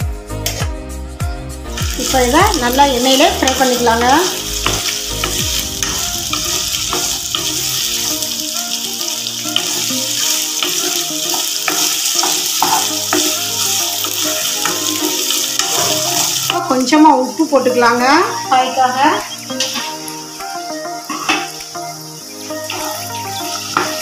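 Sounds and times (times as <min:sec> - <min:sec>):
okra sizzling in oil: 0:01.5 - 0:24.0.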